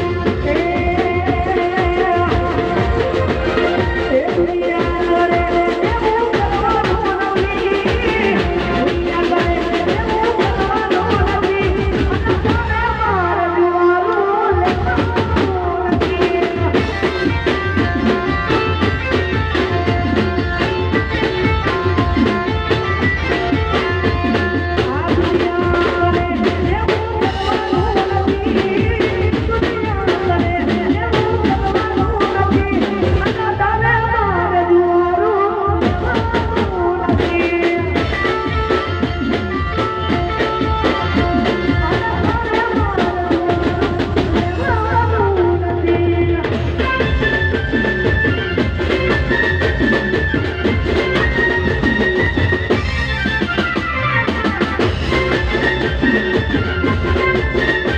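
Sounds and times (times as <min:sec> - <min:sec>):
woman singing into a microphone: 0:00.0 - 0:52.9
folk band with drums and keyboard: 0:00.0 - 0:57.9.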